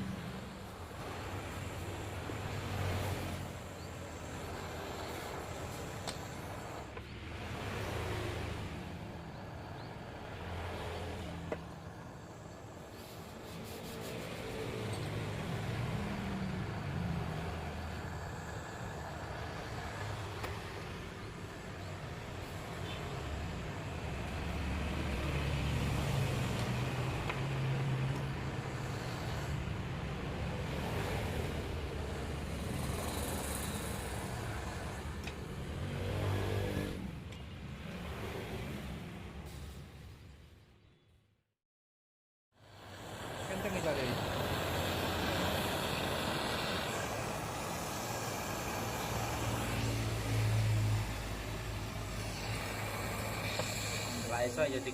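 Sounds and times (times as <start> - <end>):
motor vehicle rumbling: 0.0 - 40.4, 42.6 - 54.9.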